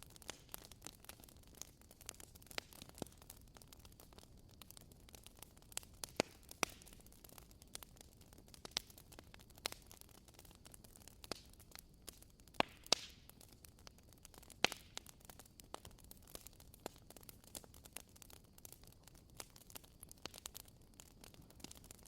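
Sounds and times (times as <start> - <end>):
fire pops: 0.0 - 22.0
wood fire crackling: 0.0 - 22.0.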